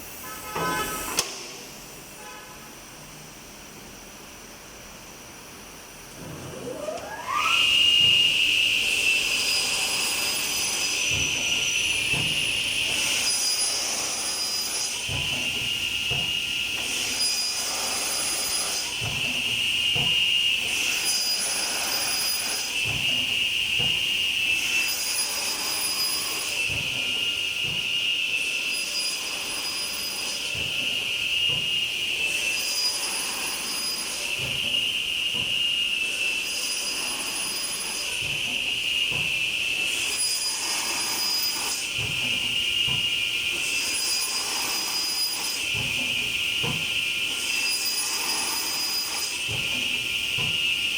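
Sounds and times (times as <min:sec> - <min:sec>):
saw blade whining: 0:00.0 - 0:01.5, 0:06.3 - 0:50.9
saw cutting wood hiss: 0:00.0 - 0:01.6, 0:06.7 - 0:50.9.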